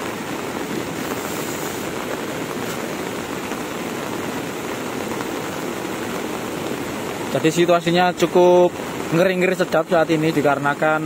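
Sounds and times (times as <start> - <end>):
heavy rain: 0.0 - 11.0
mudflow water rushing: 0.0 - 11.0.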